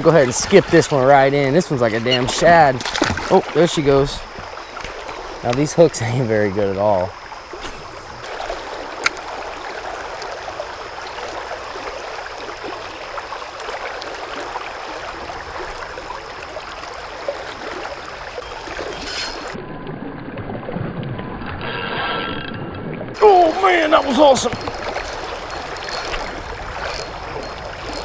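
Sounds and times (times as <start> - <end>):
creek water rushing: 0.0 - 19.6, 23.2 - 28.0.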